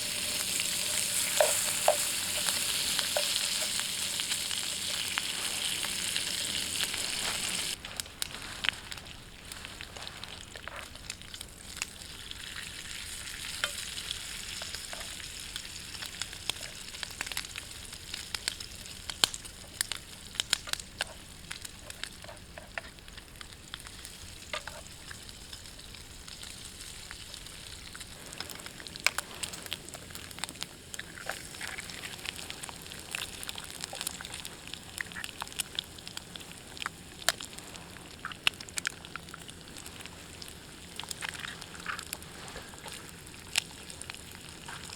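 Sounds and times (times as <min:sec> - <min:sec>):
fire pops and crackles: 0:00.0 - 0:12.2, 0:13.4 - 0:44.9
food sizzling in a pan: 0:00.0 - 0:44.9.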